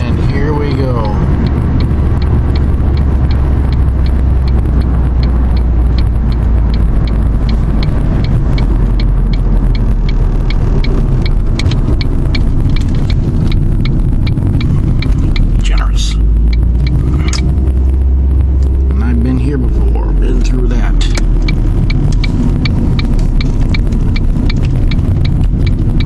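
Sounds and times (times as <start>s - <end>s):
light even ticking: 0.0s - 26.0s
road and engine rumble: 0.0s - 26.0s.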